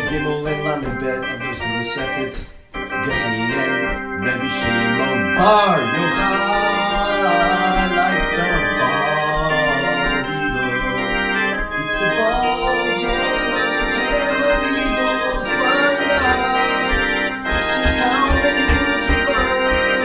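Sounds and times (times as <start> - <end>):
organ-toned keyboard music: 0.0 - 20.0.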